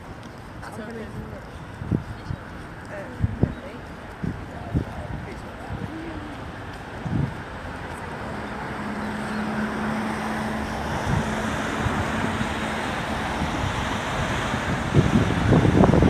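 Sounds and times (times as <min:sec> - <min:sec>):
city traffic: 0:00.0 - 0:16.0
wind on microphone: 0:00.0 - 0:16.0.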